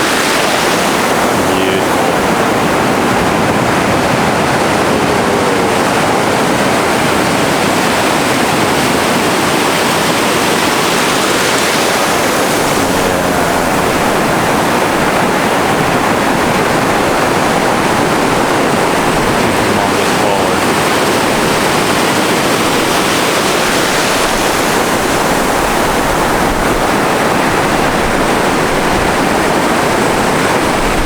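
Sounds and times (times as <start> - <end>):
waves washing onto stony shore: 0.0 - 31.0
wind: 0.0 - 31.0.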